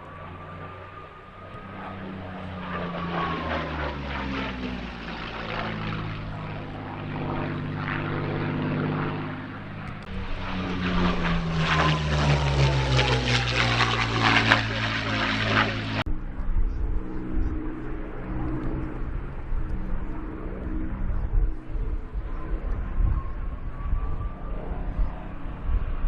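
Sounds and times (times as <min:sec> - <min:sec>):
propeller plane flying past: 0:00.0 - 0:26.0.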